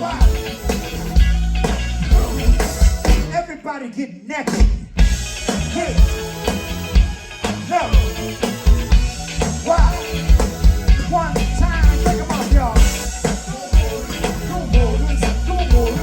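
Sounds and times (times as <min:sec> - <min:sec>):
bass and drums groove: 0:00.0 - 0:03.5, 0:04.5 - 0:16.0
funk band playing: 0:00.0 - 0:03.6, 0:04.5 - 0:16.0.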